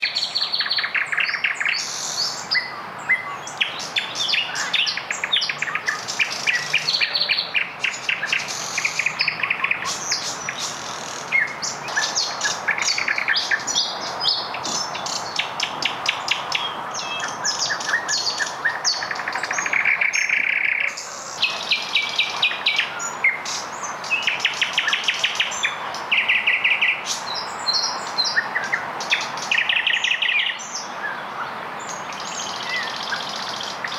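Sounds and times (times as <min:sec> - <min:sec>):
nightingales singing: 0:00.0 - 0:33.9.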